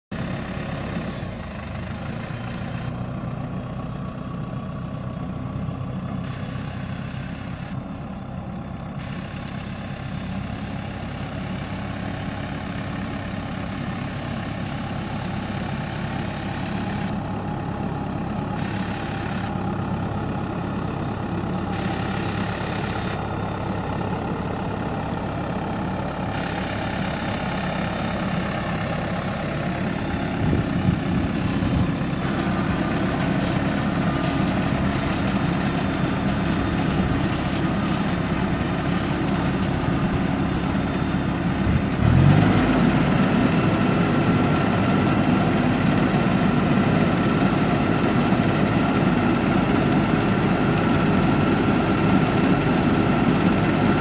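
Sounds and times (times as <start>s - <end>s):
tractor diesel engine under load: 0.1s - 54.0s
rotary trench cutter milling soil: 0.2s - 54.0s.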